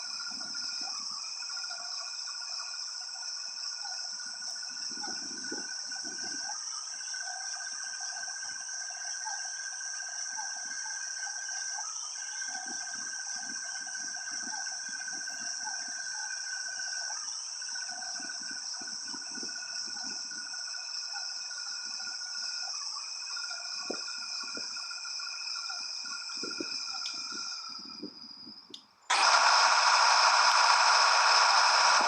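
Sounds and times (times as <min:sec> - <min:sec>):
insect chorus: 0:00.0 - 0:32.0
low insect trill: 0:00.0 - 0:32.0.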